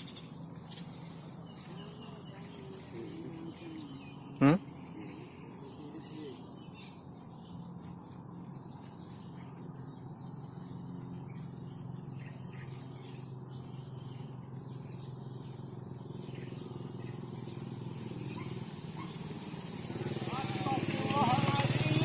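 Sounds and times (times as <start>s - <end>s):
crickets chirping: 0.0s - 22.0s
low steady hum: 0.0s - 22.0s.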